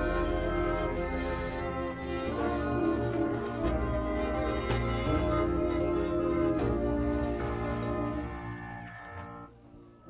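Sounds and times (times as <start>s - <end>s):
orchestral music with held chords: 0.0s - 10.0s.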